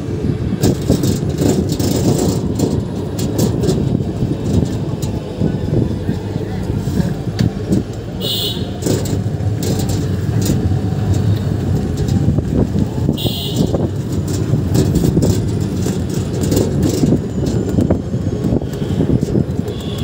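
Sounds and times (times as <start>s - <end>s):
auto-rickshaw engine running: 0.0s - 20.0s
road rumble: 0.0s - 20.0s.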